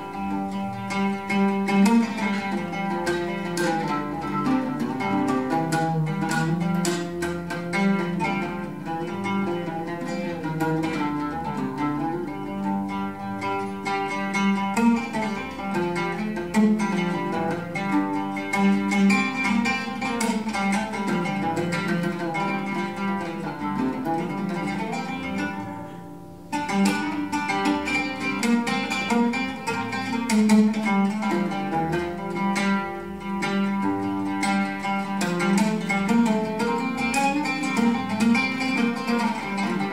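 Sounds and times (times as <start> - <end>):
oud plucked: 0.0 - 39.9.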